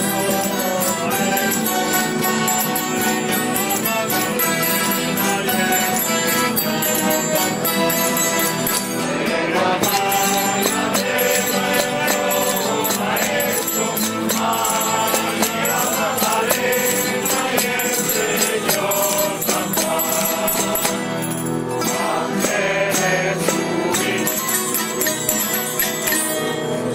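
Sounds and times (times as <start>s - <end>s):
group of voices singing: 0.0s - 26.3s
accordion: 0.0s - 26.9s
small bells jingling: 0.0s - 26.9s
strummed guitars: 0.0s - 26.9s.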